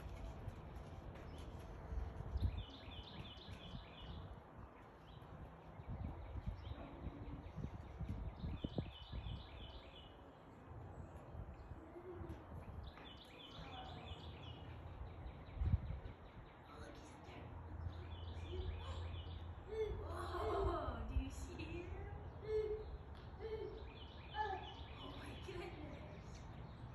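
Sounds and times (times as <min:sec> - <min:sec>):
steady low rumble: 0:00.0 - 0:23.4.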